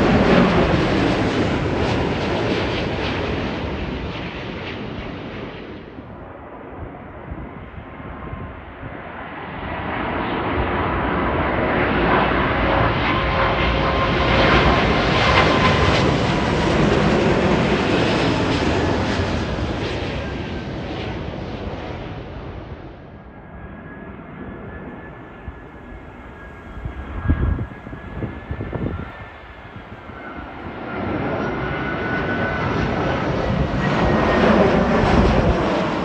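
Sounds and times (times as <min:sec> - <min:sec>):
jet engines roaring overhead: 0:00.0 - 0:36.0.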